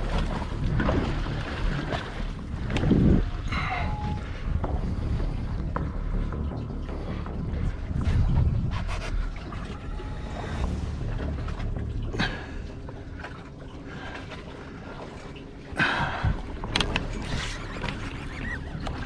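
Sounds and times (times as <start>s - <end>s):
wind and water rumble on microphone: 0.0s - 19.0s.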